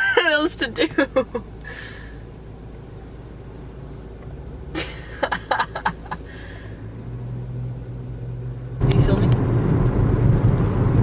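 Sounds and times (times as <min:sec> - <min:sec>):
car cabin engine and road hum: 0:00.0 - 0:11.0.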